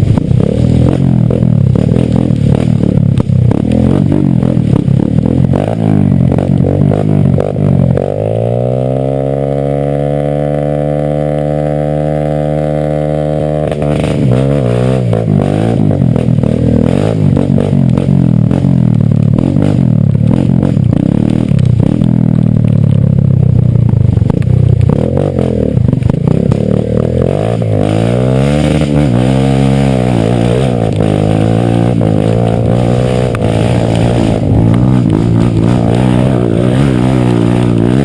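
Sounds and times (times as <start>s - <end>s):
dirt motorcycle engine revving: 0.0s - 38.0s.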